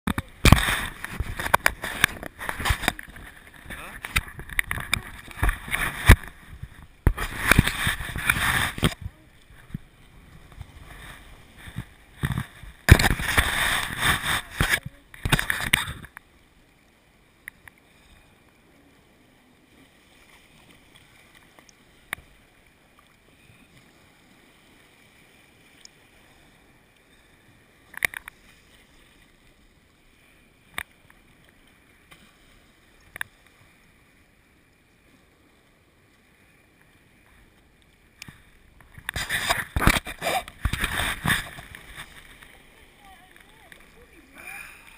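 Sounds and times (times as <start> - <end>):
water splashing around a kayak: 0.0 - 44.9.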